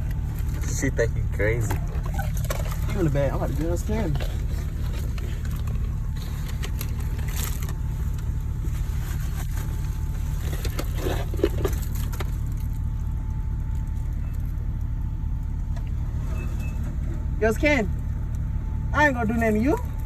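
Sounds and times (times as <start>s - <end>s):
car cabin low rumble: 0.0s - 20.0s.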